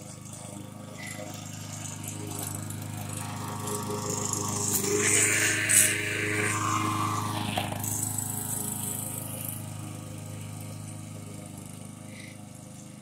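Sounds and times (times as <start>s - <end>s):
lawn mower engine cutting grass: 0.0s - 13.0s.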